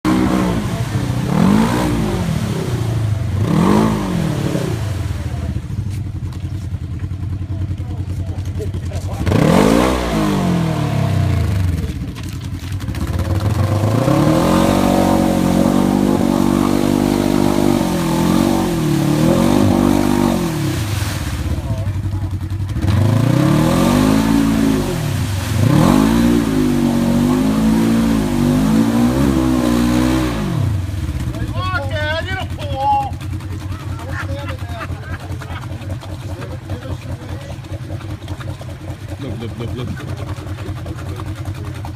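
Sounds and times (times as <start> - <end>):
vehicle engine revving: 0.0 - 41.9.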